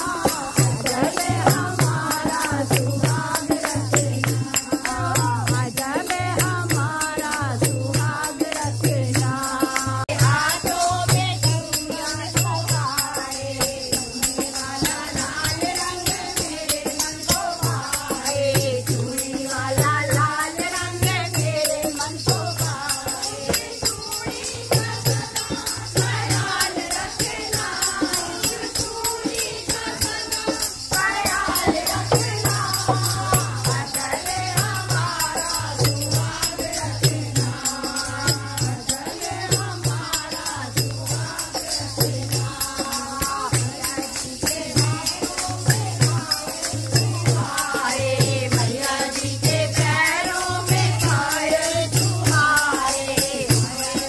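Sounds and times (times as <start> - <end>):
group singing devotional song: 0.0 - 54.0
shaken rattle percussion: 0.0 - 54.0.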